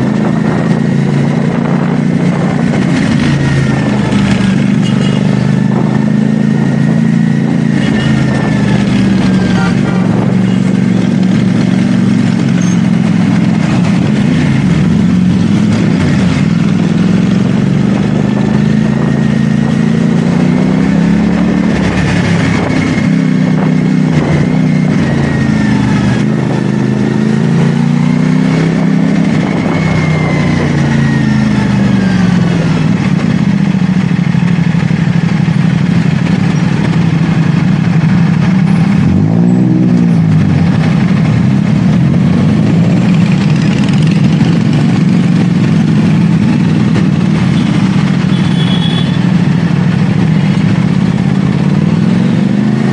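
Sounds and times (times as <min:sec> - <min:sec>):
engine revving: 0:00.0 - 0:52.9
motorcycle engine shifting gears: 0:00.0 - 0:52.9.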